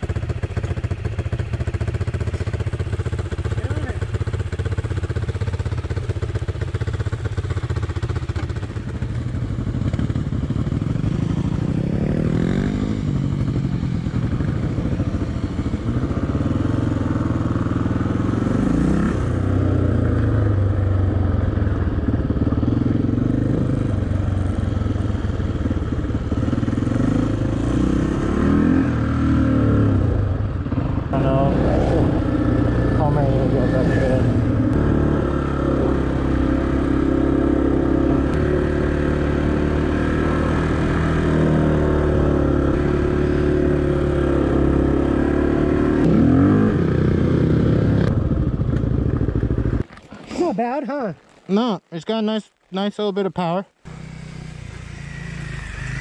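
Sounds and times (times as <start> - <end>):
motorcycle engine revving: 0.0 - 49.9, 53.8 - 56.0.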